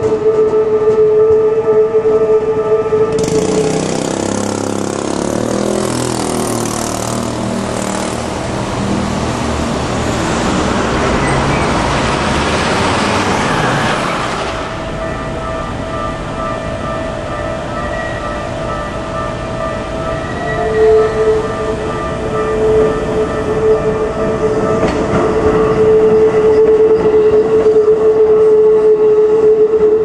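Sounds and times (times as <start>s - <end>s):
train horn: 0.0s - 16.0s, 20.1s - 30.0s
train wheel and motor noise: 0.0s - 30.0s.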